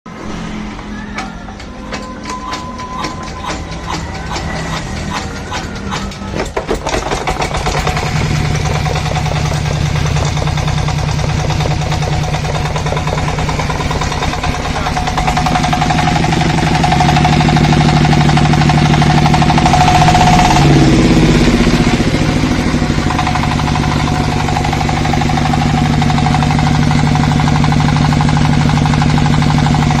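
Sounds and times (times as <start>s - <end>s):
single-cylinder diesel engine running: 0.1s - 30.0s.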